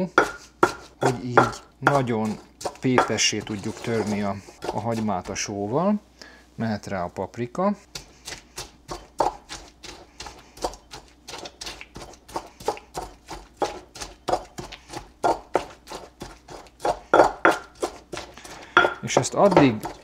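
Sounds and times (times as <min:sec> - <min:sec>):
pestle pounding in a mortar: 0:00.1 - 0:05.5, 0:07.9 - 0:20.0.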